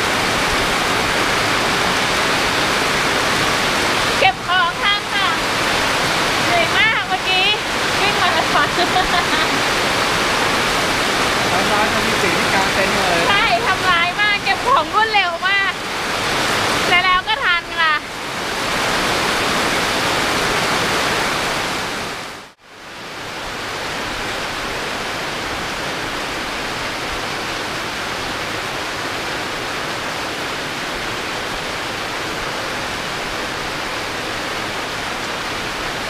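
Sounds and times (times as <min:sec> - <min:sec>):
heavy rain pouring: 0:00.0 - 0:36.0
water streaming off roof: 0:00.0 - 0:36.0.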